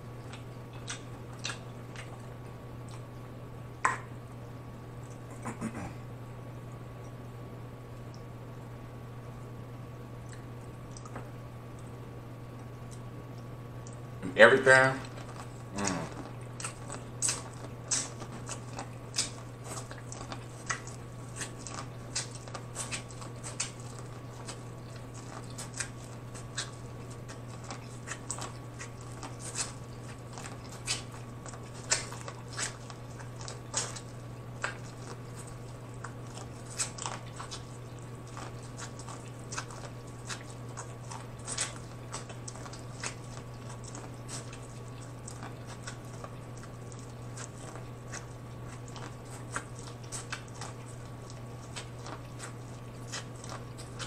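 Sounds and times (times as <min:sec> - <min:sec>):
corn crunching while chewed: 0:00.0 - 0:03.2, 0:13.8 - 0:54.0
steady low hum: 0:00.0 - 0:54.0.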